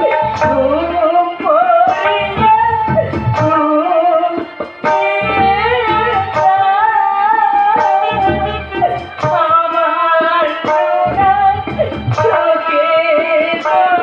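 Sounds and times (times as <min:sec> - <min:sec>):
tabla strokes: 0:00.0 - 0:14.0.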